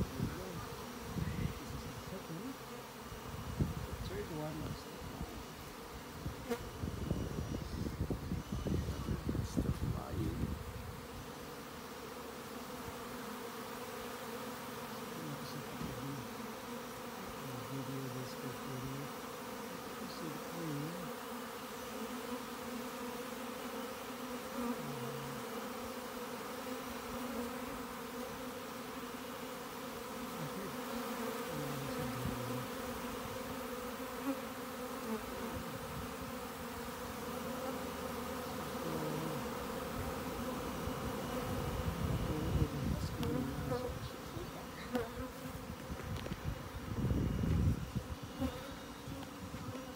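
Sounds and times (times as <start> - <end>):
single bee flying past: 0.0 - 49.9
swarm of bees buzzing: 0.0 - 49.9.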